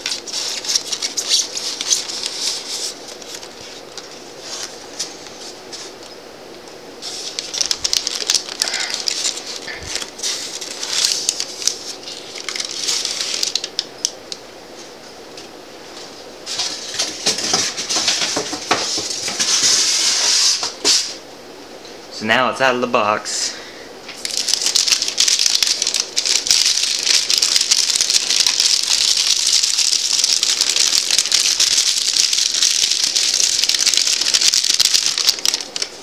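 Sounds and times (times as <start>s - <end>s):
styrofoam rubbing and squeaking: 0.0s - 5.9s, 7.0s - 13.7s, 16.5s - 21.2s, 24.2s - 36.0s
plastic wrapping rustling: 0.0s - 6.1s, 7.0s - 14.2s, 15.8s - 21.2s, 24.0s - 36.0s.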